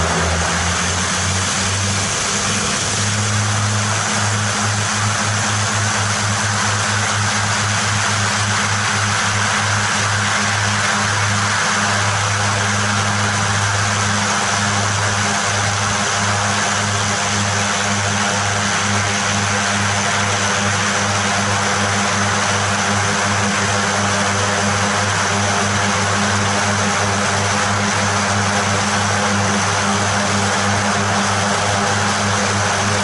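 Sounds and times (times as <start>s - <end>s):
turboprop engines running: 0.0s - 33.0s.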